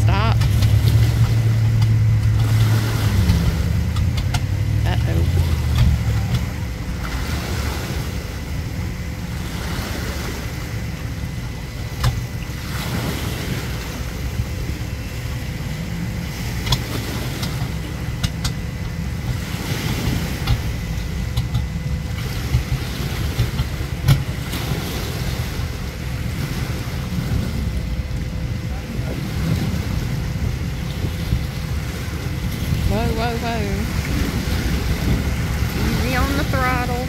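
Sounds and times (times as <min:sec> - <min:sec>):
water lapping: 0:00.0 - 0:37.0
wind rumbling on microphone: 0:00.0 - 0:37.0.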